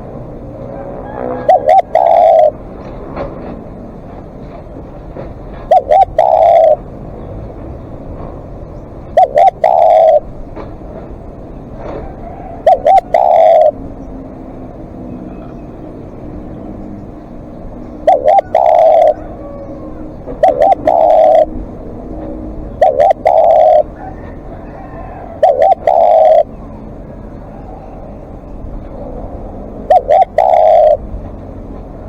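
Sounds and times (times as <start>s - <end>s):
dove cooing: 0.0s - 3.5s, 5.1s - 7.2s, 9.0s - 11.2s, 11.8s - 14.2s, 15.1s - 32.0s.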